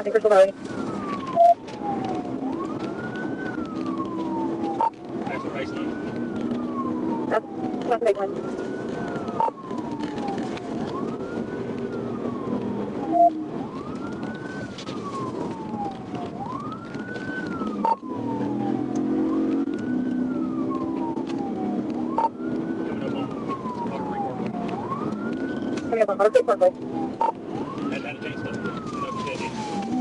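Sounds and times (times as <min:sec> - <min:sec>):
engine and road noise: 0:00.0 - 0:30.0
police siren wailing: 0:00.0 - 0:30.0.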